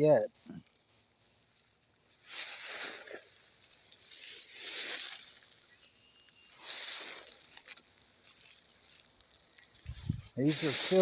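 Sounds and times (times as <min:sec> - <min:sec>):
soft rustling hiss: 0:00.0 - 0:11.0.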